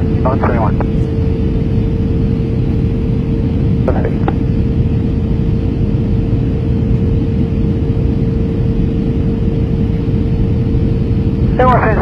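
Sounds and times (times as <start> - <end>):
aircraft cabin rumble: 0.0 - 12.0
constant hum: 0.0 - 12.0.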